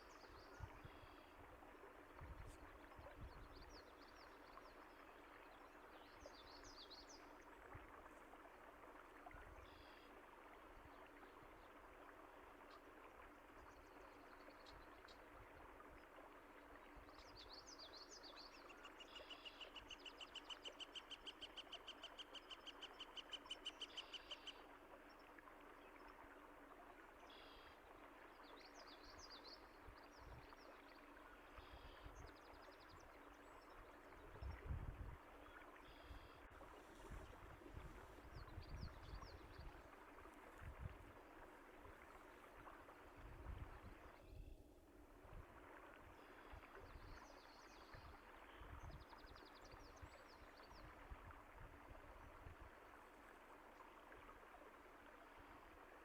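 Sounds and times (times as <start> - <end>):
water running softly: 0.0 - 56.0.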